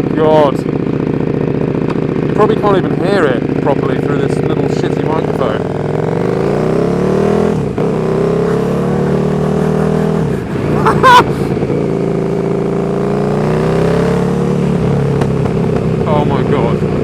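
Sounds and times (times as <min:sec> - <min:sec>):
motorcycle engine revving through gears: 0:00.0 - 0:17.0.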